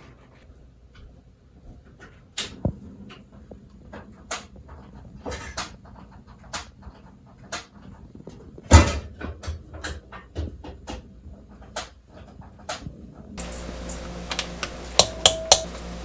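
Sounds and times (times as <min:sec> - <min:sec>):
kitchen work clicks and knocks: 0:01.8 - 0:16.0.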